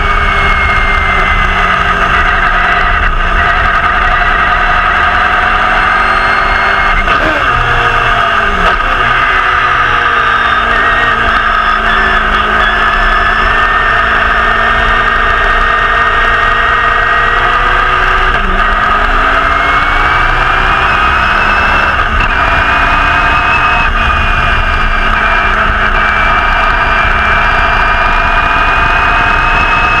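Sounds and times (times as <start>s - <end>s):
racing car engine at speed: 0.0s - 30.0s.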